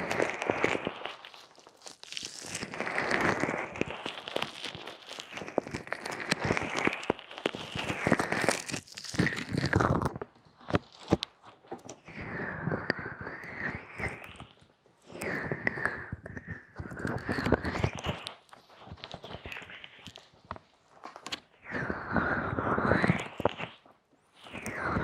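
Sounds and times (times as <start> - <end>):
hands rubbing a microphone: 0.0 - 25.0.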